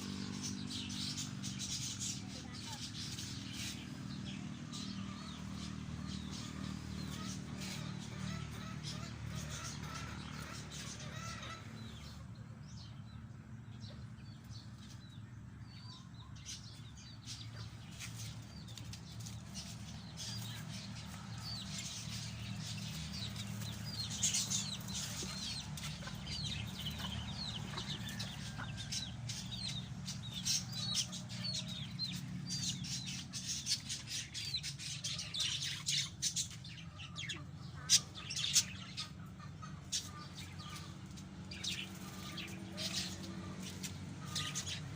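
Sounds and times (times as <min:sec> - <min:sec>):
lovebirds chirping: 0:00.0 - 0:44.9.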